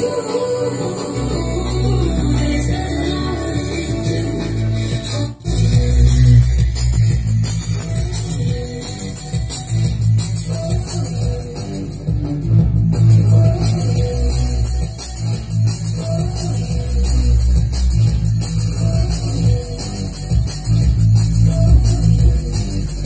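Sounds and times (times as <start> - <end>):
song with guitar and bass: 0.0 - 23.0.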